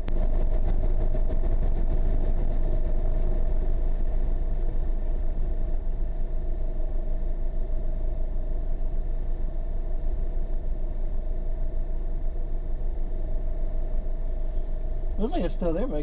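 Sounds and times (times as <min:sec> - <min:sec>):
engine idling: 0:00.0 - 0:16.0
faint steady hum: 0:00.0 - 0:16.0.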